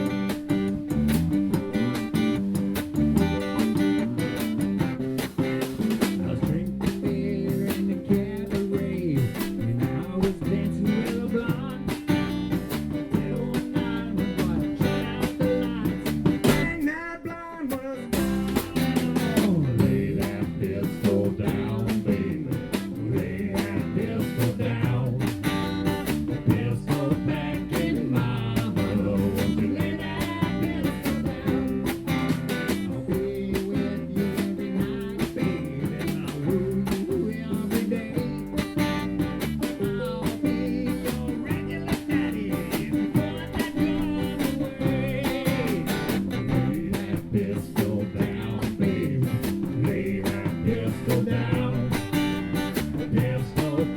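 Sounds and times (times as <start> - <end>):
live band playing country song: 0.0 - 53.9.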